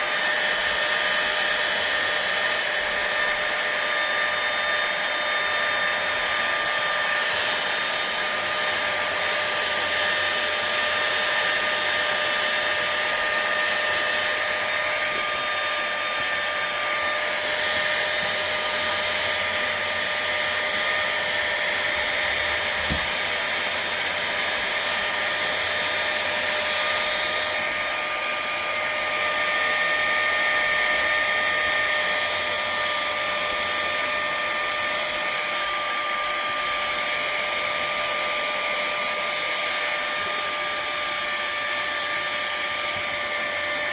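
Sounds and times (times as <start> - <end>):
electric air pump whining: 0.0 - 43.9.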